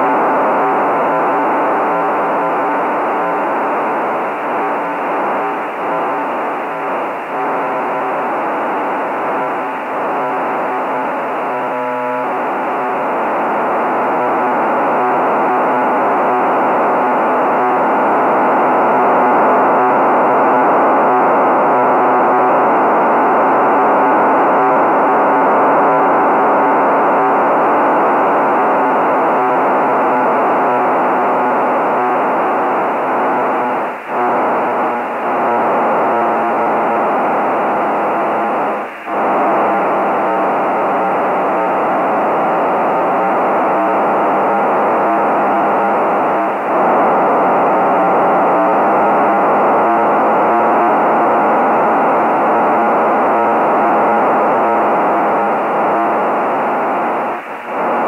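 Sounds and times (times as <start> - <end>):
buzzy data tone: 0.0 - 58.0.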